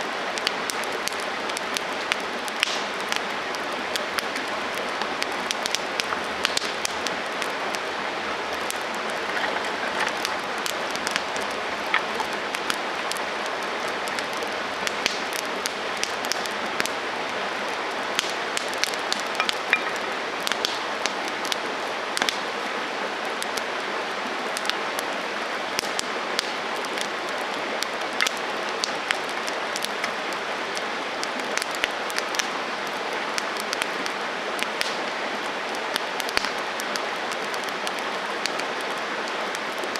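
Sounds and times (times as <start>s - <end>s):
campfire burning and crackling: 0.0s - 39.9s.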